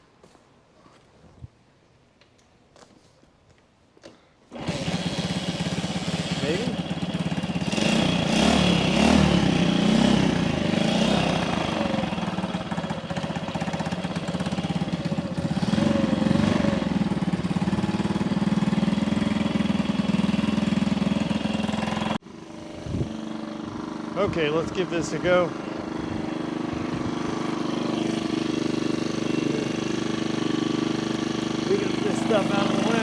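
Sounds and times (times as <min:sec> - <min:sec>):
motorcycle engine revving and idling: 0:04.5 - 0:33.0.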